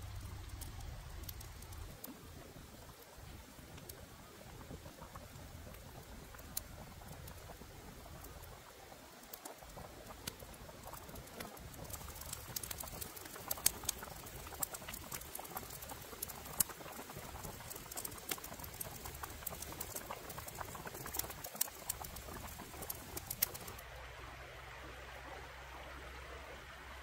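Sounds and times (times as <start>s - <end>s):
sharp pops and crackles: 0.0s - 23.8s
liquid bubbling: 0.0s - 23.9s.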